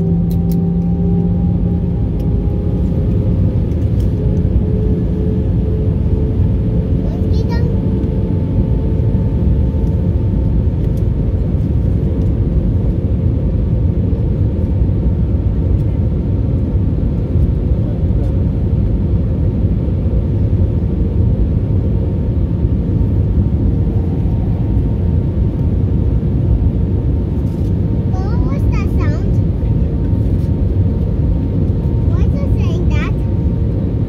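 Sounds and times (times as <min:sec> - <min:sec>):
jet engines and airflow rumble: 0:00.0 - 0:34.0
mid-pitched hum: 0:00.0 - 0:34.0.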